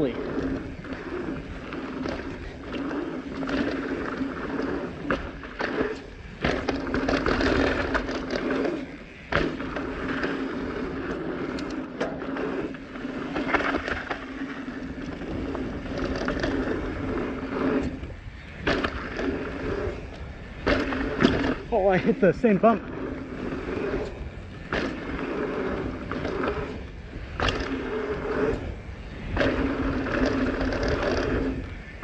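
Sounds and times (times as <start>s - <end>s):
bike knocks and rattles: 0.0s - 32.0s
bike tyres rolling on dirt: 0.0s - 32.0s.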